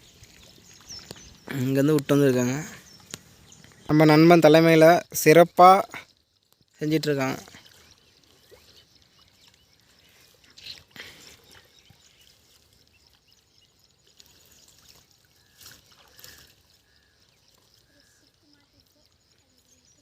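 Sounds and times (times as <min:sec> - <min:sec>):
water splashing and sloshing: 0:00.0 - 0:04.2, 0:05.7 - 0:19.9.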